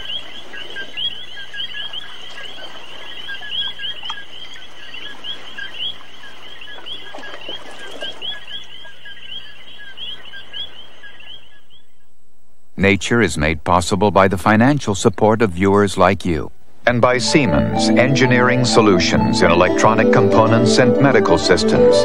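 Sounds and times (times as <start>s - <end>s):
faint background noise: 0.0s - 22.0s.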